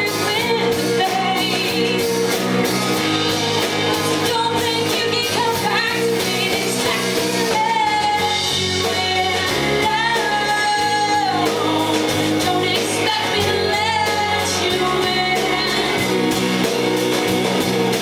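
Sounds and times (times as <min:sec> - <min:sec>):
guitar: 0:00.0 - 0:18.0
rock band playing live: 0:00.0 - 0:18.0.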